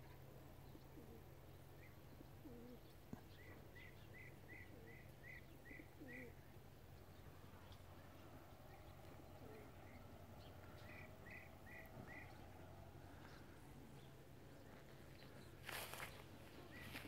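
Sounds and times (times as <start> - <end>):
low soft bird calls: 0.0 - 17.0
steady low hum: 0.0 - 17.0.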